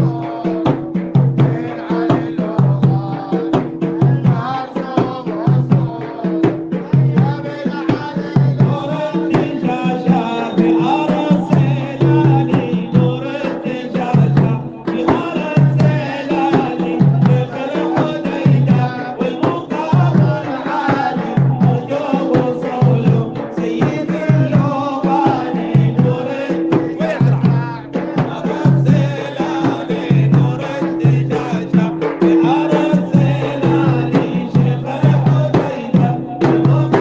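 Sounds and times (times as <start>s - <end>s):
man chanting with a group: 0.0s - 37.0s
steady drum beat: 0.0s - 37.0s.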